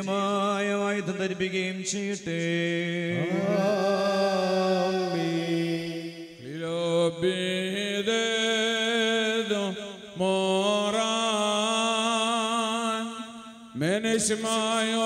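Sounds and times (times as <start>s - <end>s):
man chanting a hymn: 0.0s - 15.0s.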